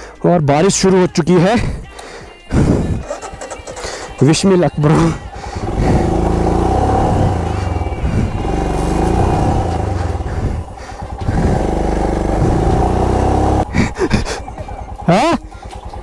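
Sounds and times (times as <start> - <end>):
motorcycle engine revving: 2.7 - 16.0.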